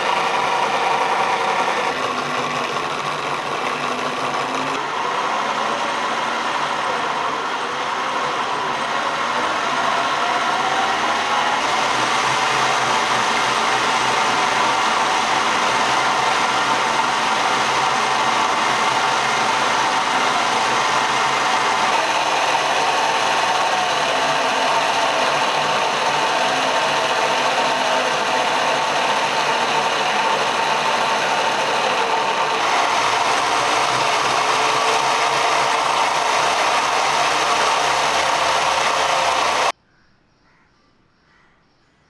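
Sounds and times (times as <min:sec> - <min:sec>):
angle grinder whining: 0:00.0 - 0:39.7.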